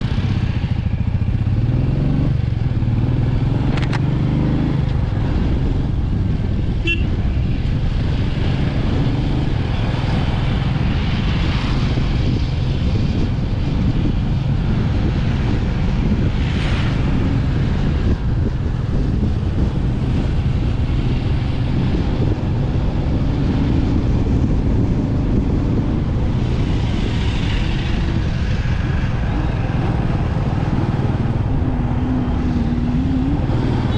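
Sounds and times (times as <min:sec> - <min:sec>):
motorcycle engine hum: 0:00.0 - 0:33.9.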